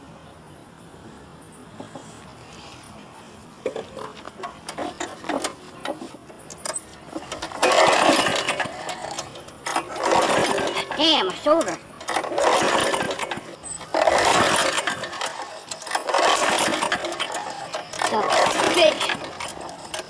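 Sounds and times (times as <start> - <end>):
knocks and clatter: 3.6 - 20.0
lawnmower pull-start rasping: 3.6 - 20.0.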